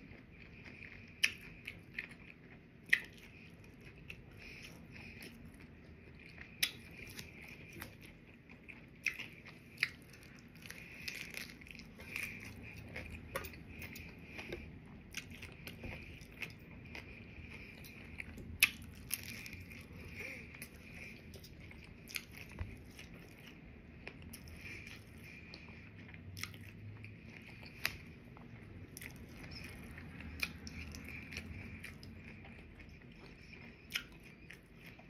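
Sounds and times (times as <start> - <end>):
chewing crispy taco: 0.0 - 35.0.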